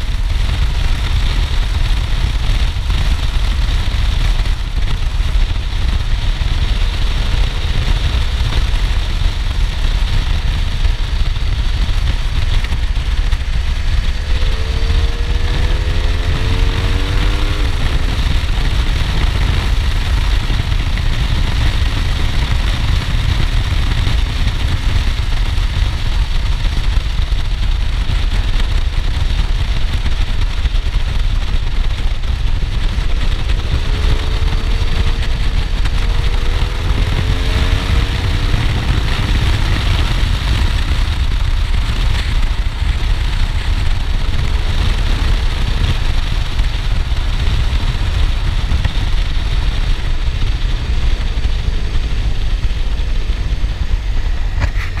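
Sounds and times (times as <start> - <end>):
motorcycle engine: 0.0 - 55.0
wind rumble on microphone: 0.0 - 55.0.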